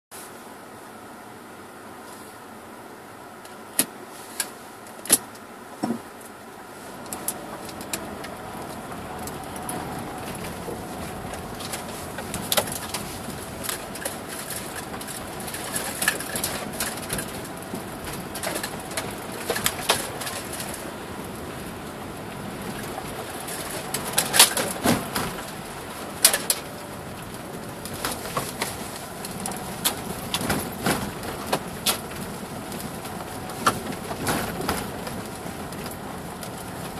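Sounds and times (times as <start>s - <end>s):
car driving on dirt track: 0.2s - 36.9s
knocks and rattles from bumps: 6.9s - 36.9s.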